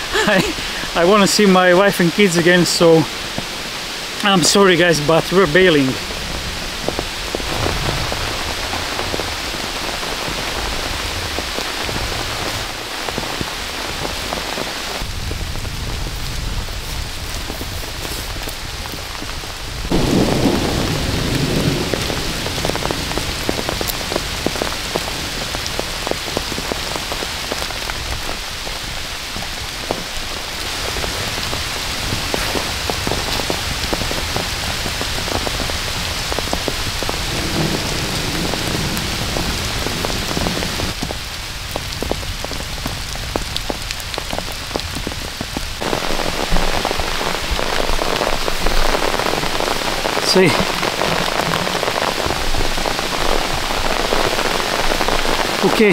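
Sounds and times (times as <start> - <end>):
heavy rain pattering: 0.0 - 55.9
thunder rumble: 4.7 - 55.9.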